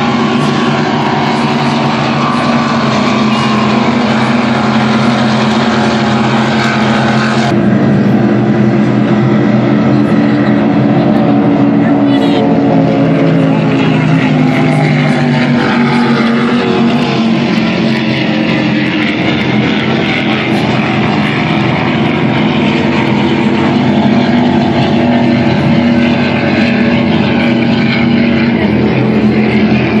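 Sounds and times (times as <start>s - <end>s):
powerboat engines droning: 0.0s - 30.0s.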